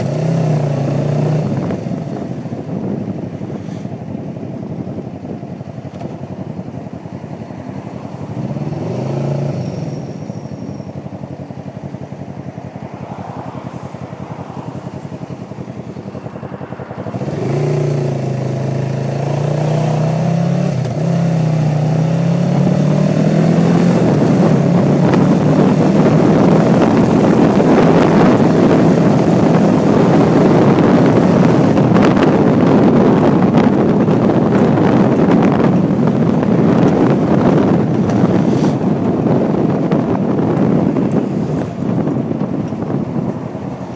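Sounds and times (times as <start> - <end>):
motorcycle engine: 0.0 - 43.9
wind rush: 0.0 - 43.9.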